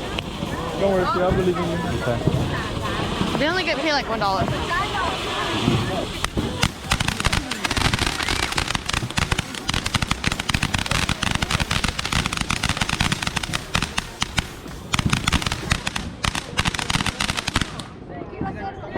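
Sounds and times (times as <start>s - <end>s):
firecrackers popping: 0.0s - 18.0s.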